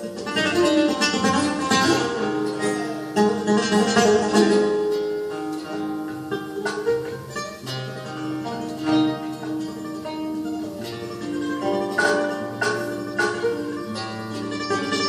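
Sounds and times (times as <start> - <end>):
flamenco guitars playing: 0.0 - 15.0.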